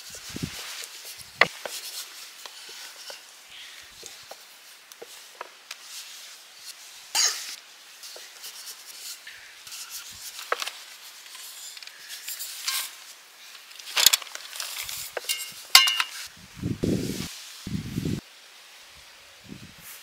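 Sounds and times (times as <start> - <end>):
soft handling rustles: 0.0 - 16.3.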